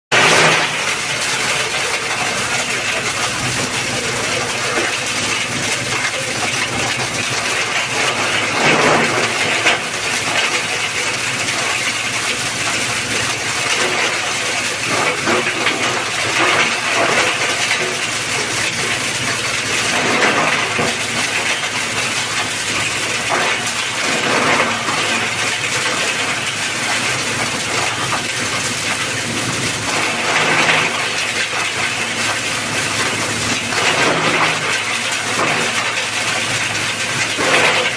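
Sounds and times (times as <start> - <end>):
compost shredder rattling: 0.1 - 37.9.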